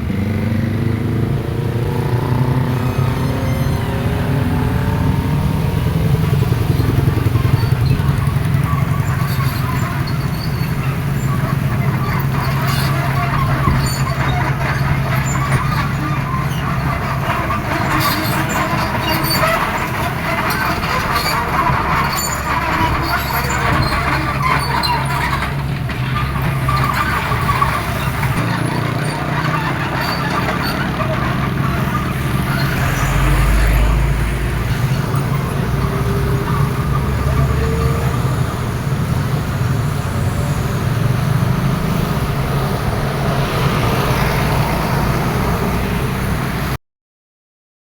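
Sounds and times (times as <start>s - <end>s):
excavator diesel engines under load: 0.0s - 46.8s.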